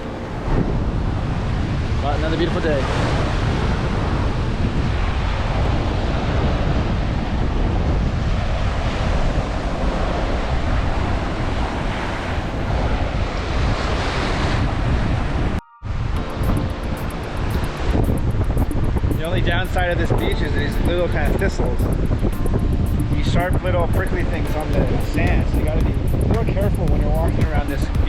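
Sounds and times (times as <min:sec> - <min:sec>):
sea surf washing on beach: 0:00.0 - 0:28.0
wind buffeting microphone: 0:00.0 - 0:28.0.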